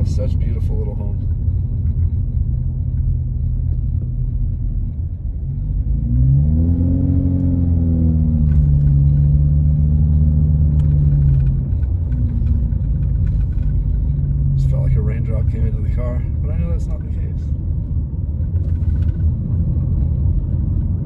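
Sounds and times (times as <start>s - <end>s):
car engine: 0.0s - 21.0s
road rumble: 0.0s - 21.0s.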